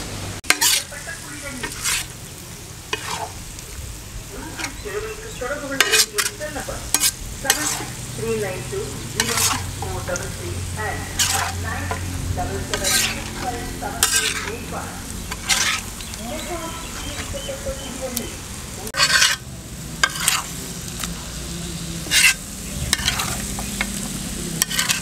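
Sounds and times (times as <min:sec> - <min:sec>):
frying sizzle: 0:00.0 - 0:25.0
metal spatula scraping pan: 0:00.4 - 0:02.2, 0:02.9 - 0:03.5, 0:04.4 - 0:17.5, 0:18.9 - 0:21.0, 0:22.0 - 0:25.0.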